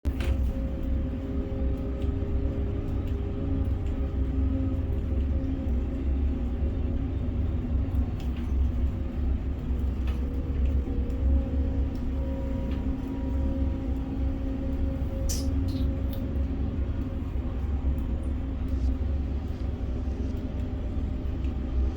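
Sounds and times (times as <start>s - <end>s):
crane machinery rumbling: 0.1s - 21.9s.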